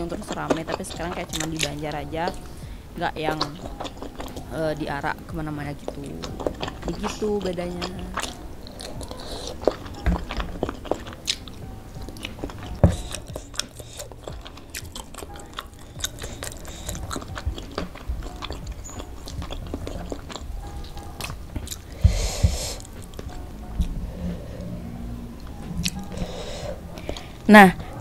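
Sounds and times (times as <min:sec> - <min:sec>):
chewing crispy food: 0:00.0 - 0:28.0.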